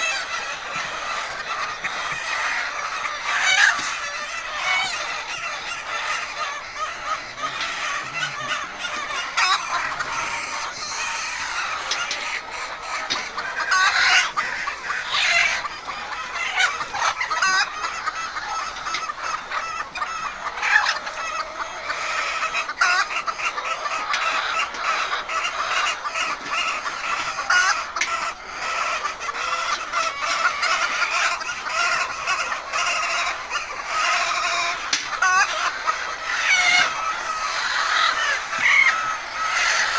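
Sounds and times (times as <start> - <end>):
hens clucking and squawking: 0.0 - 39.9.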